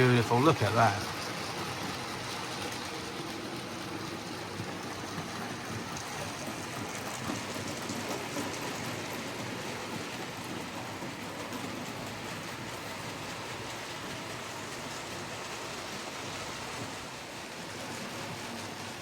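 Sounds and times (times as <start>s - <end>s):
model train whirring on rails: 0.0s - 19.0s.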